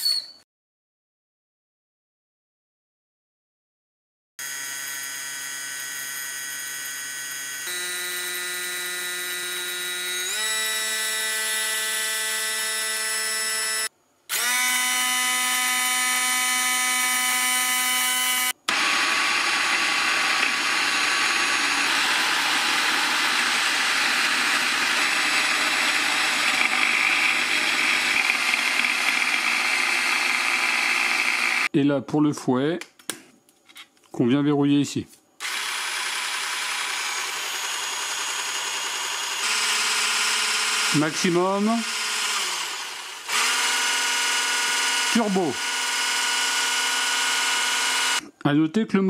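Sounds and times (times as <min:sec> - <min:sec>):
electric hand blender whine: 0:04.4 - 0:31.7, 0:35.4 - 0:48.2.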